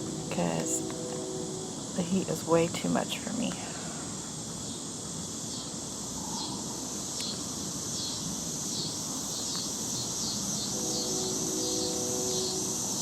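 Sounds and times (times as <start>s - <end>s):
faint steady hum: 0.0s - 13.0s
insects chirring: 0.0s - 13.0s.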